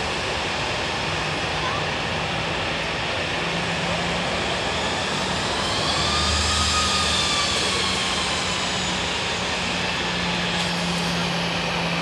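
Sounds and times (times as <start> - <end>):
jet engine rush and whine: 0.0 - 12.0.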